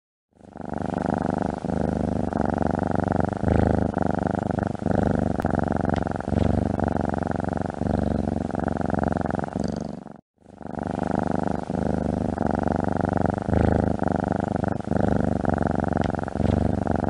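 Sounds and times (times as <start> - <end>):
cat purring: 0.4 - 17.0.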